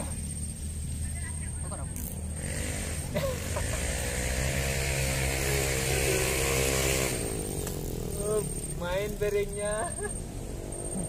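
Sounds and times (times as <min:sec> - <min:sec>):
engine passing by: 0:00.0 - 0:11.0.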